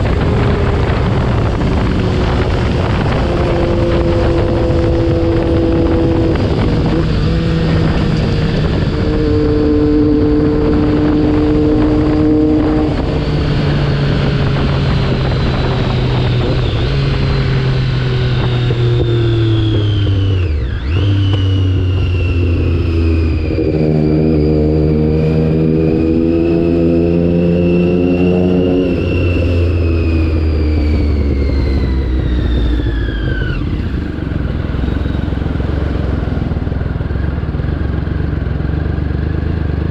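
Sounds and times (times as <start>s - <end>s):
wind blast on microphone: 0.0s - 36.8s
motorcycle engine: 0.0s - 39.9s.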